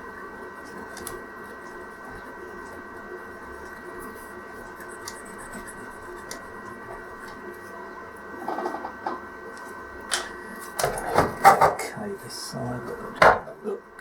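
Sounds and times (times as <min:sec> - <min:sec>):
electrical hum with tones: 0:00.0 - 0:14.0.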